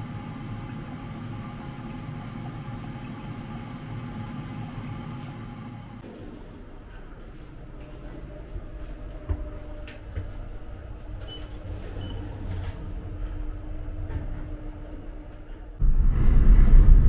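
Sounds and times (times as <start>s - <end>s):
elevator running rumble: 0.0s - 17.0s.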